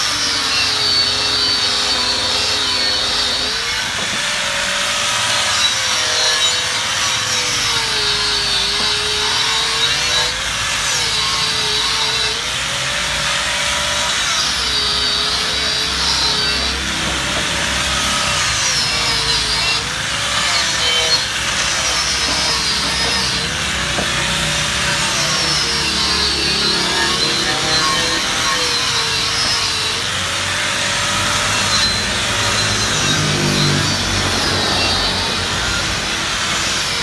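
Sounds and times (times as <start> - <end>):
angle grinder grinding metal: 0.0 - 37.0.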